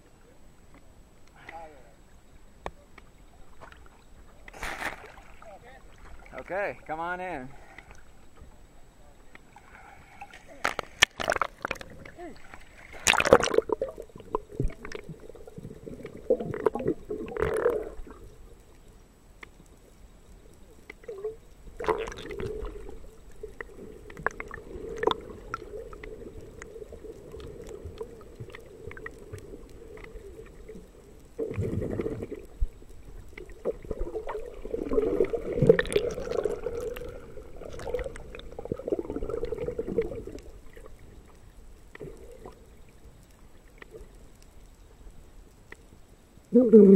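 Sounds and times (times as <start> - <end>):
muffled underwater sloshing: 0.0 - 46.6
steady hum: 0.0 - 46.6.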